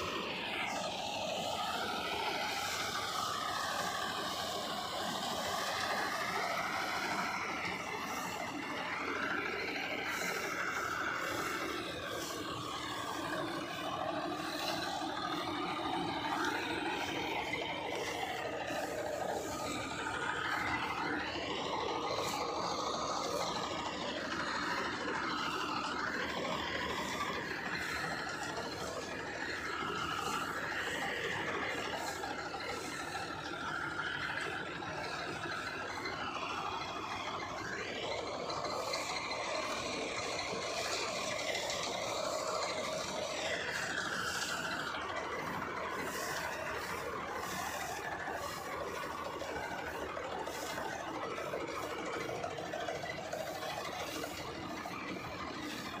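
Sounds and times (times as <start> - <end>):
combine harvester engine: 0.0 - 56.0
high whine: 0.0 - 56.0
rattling machinery: 0.0 - 56.0.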